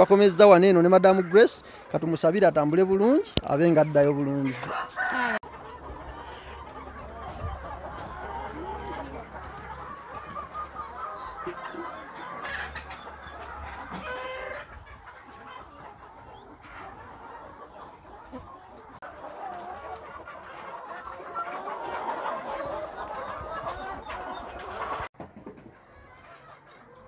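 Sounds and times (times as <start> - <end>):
chickens clucking and calling: 0.0 - 27.0.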